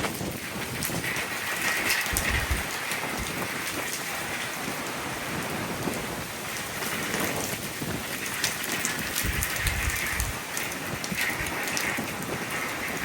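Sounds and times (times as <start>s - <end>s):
rain pattering on hard surfaces: 0.0s - 13.0s.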